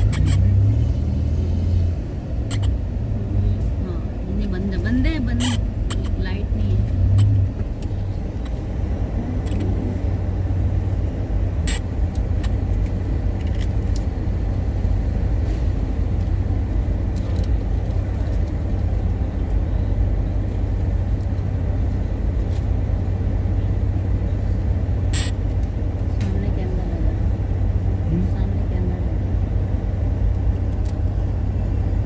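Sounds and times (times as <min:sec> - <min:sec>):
car cabin low rumble: 0:00.0 - 0:32.0.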